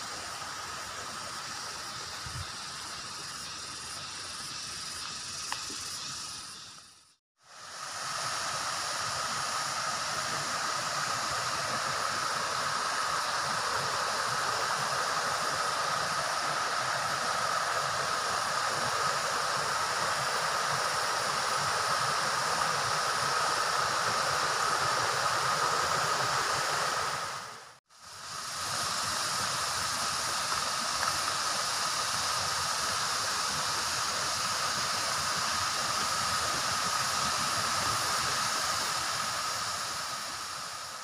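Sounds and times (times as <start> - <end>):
stream rippling over rocks: 7.4 - 41.0.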